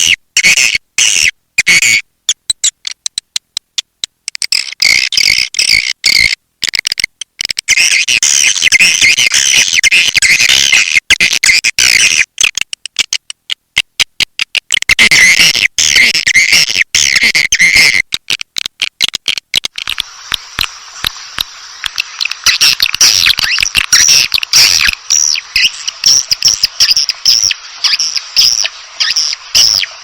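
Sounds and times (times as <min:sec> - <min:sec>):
swiftlets chirping and clicking: 0:02.3 - 0:30.0.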